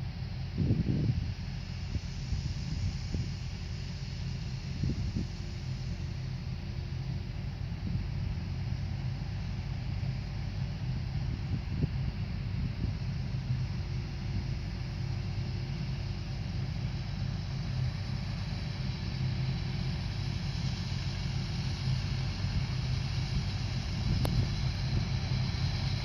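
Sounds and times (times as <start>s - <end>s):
harvesting machine engine drone: 0.0s - 26.0s
steady hiss: 0.0s - 26.0s.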